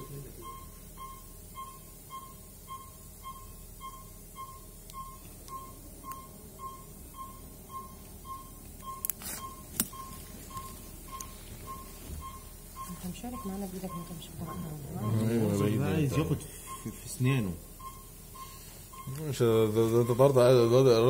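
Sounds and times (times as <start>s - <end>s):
patient monitor beeping: 0.0s - 21.0s.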